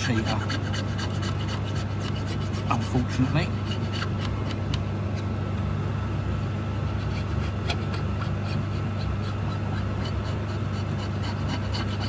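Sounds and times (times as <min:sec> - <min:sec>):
blade scraping metal: 0:00.0 - 0:04.6, 0:06.9 - 0:12.0
heater droning: 0:00.0 - 0:12.0.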